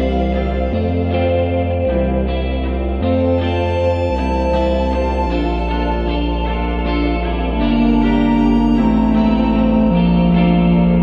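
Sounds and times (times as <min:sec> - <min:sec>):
slow chords over bass: 0:00.0 - 0:11.0.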